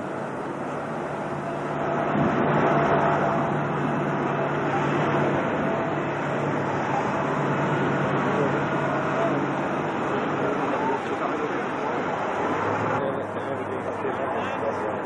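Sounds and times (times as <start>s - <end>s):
water rushing and spraying: 0.0s - 13.0s
vehicle engine running under load: 0.0s - 15.0s.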